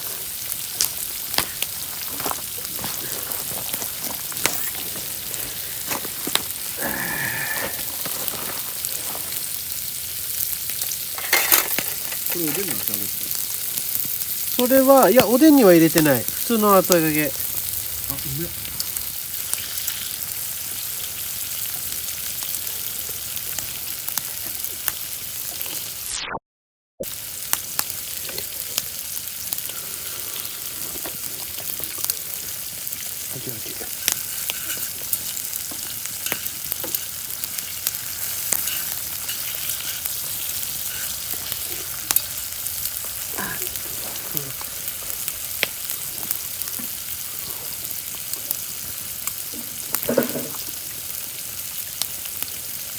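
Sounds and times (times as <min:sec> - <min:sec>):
food sizzling in hot oil: 0:00.0 - 0:26.4, 0:27.0 - 0:52.9.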